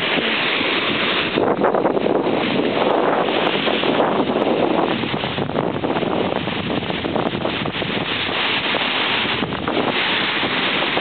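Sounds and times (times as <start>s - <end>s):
small waves washing up beach: 0.0s - 11.0s
wind buffeting microphone: 0.0s - 11.0s.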